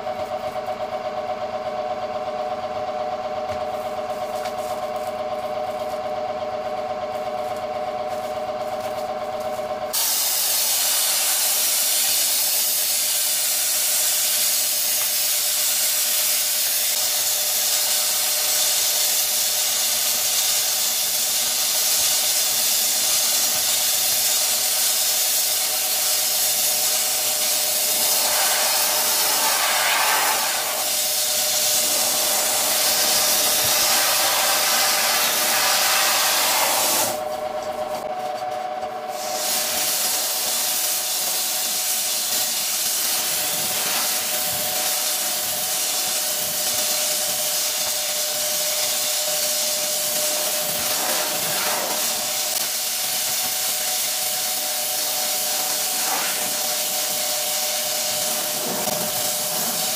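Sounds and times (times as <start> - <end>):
air compressor humming: 0.0 - 59.9
sandblaster hissing on glass: 9.9 - 37.2, 39.1 - 59.9.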